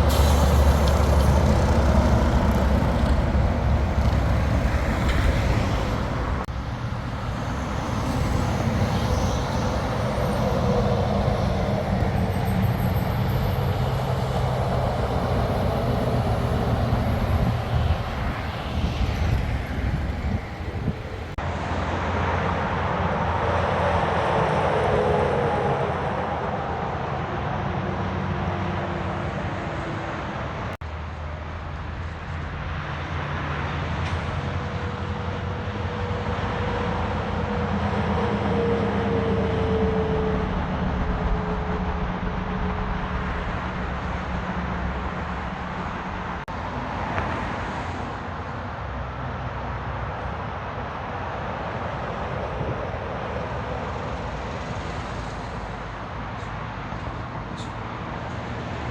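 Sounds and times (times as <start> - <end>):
heavy road traffic: 0.0 - 58.9.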